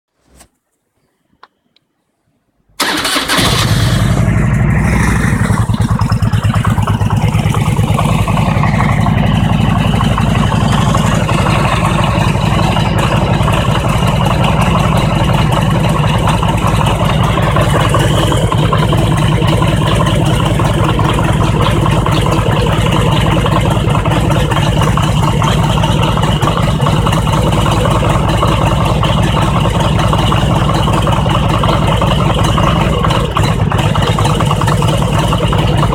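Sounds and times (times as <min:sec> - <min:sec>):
motorcycle engine starting and idling: 0:02.8 - 0:35.9.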